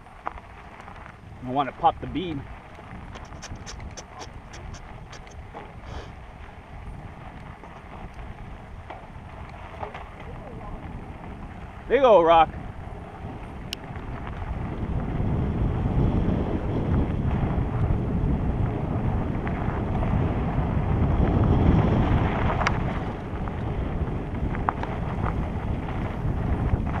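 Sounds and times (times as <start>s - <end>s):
bike clicks and rattles: 0.0s - 27.0s
wind rushing over microphone: 0.0s - 27.0s.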